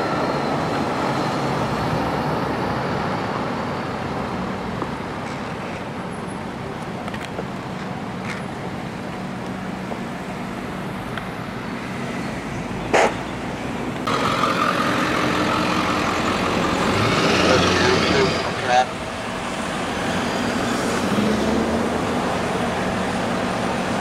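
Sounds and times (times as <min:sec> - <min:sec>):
fire truck engines driving past: 0:00.0 - 0:24.0
traffic noise: 0:00.0 - 0:24.0.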